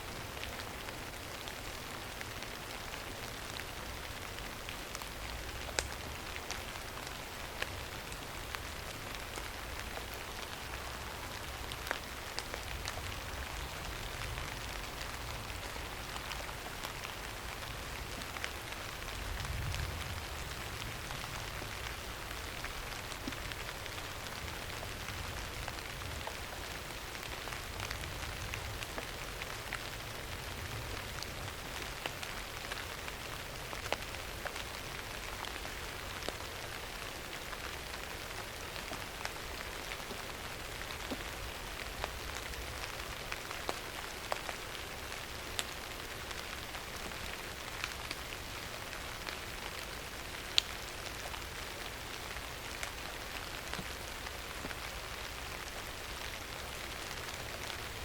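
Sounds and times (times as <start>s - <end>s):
steady rain hiss: 0.0s - 58.0s
sharp raindrops striking: 0.1s - 58.0s.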